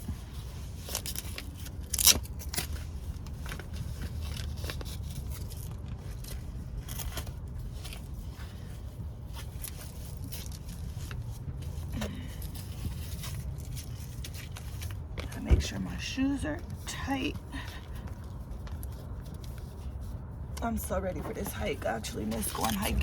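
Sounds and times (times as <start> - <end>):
low steady hum: 0.0 - 23.0
straps rustling and scraping: 0.0 - 23.0.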